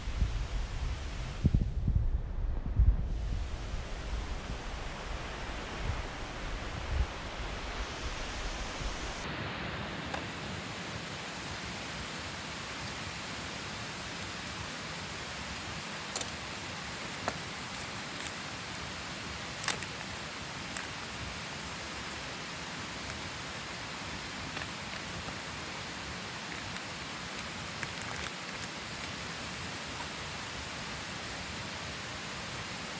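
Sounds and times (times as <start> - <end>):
mountain stream flowing: 3.1 - 32.9.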